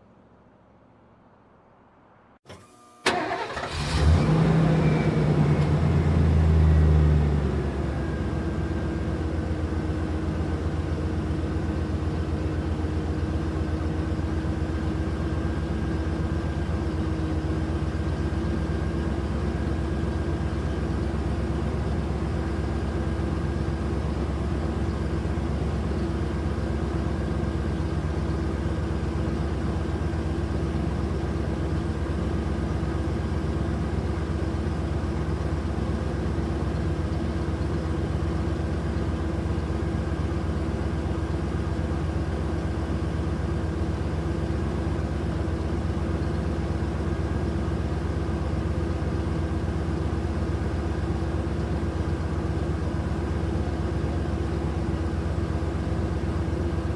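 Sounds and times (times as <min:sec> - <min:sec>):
truck engine idling: 0:02.5 - 0:56.9.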